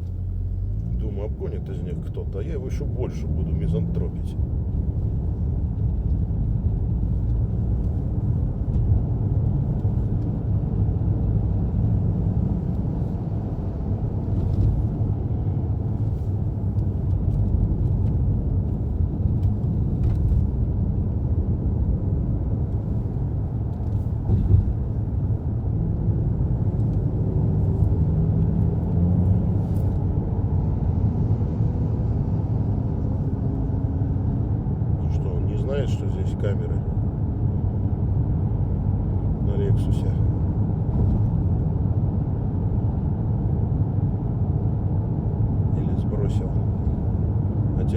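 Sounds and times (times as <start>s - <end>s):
tyre and engine rumble: 0.0s - 47.9s.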